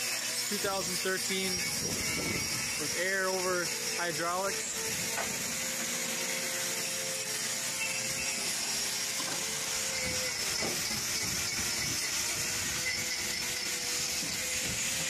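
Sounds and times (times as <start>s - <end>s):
hydraulic system hiss and hum: 0.0s - 15.0s.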